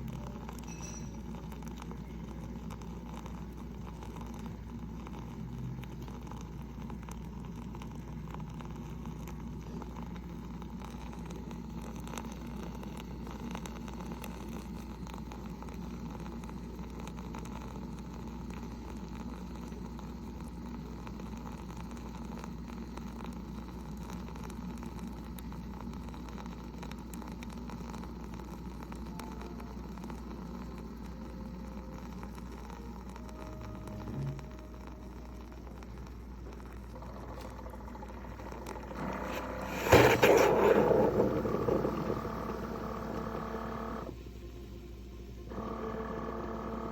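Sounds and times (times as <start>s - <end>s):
coffee maker humming and hissing: 0.0s - 46.9s.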